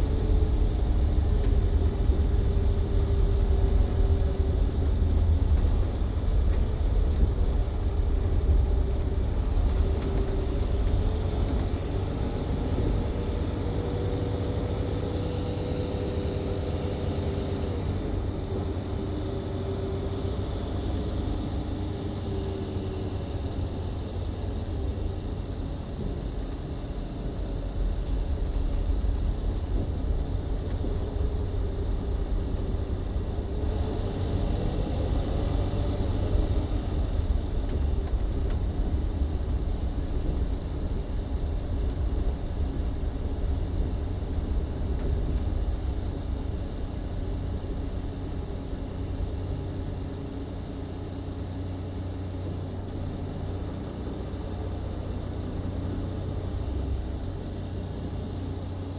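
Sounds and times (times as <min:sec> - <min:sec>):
bus diesel engine: 0:00.0 - 0:58.9
road rumble: 0:00.0 - 0:58.9.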